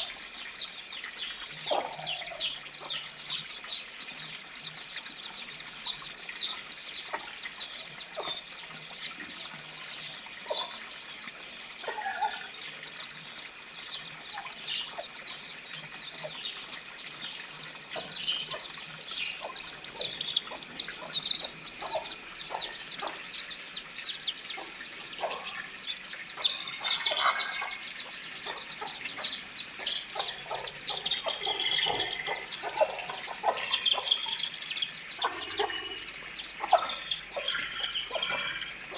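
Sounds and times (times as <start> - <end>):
chicks peeping: 0.0 - 38.9
chickens clucking: 1.5 - 3.4, 5.0 - 38.9.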